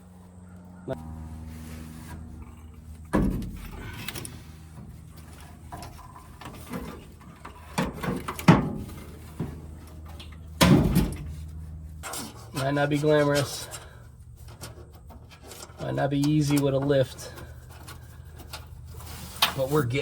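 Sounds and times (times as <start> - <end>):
steady low hum: 0.0 - 20.0
metal parts clunking and scraping: 3.0 - 20.0.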